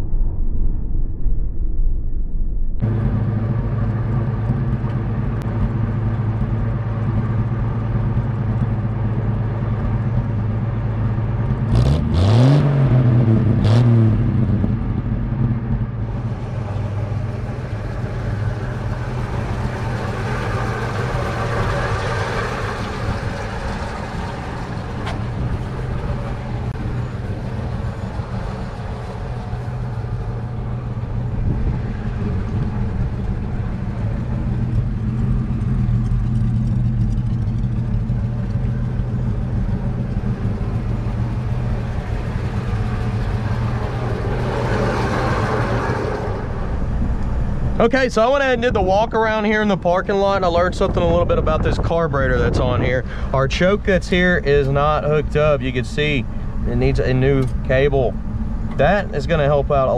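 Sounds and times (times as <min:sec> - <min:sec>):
truck engine idling and revving: 0:02.8 - 0:59.9.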